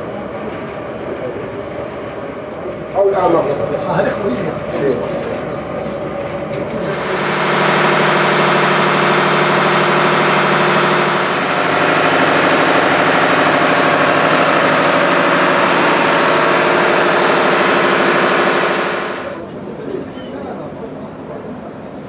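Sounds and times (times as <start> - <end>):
ship engine droning: 0.0 - 19.6.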